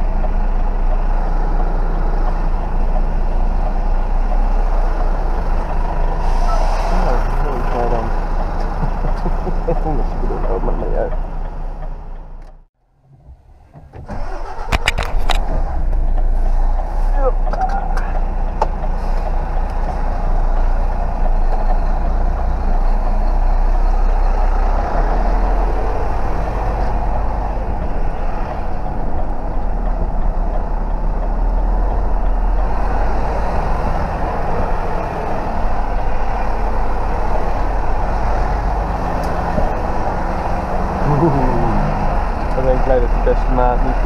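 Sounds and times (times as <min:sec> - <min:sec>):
truck diesel engine rumbling: 0:00.0 - 0:44.0.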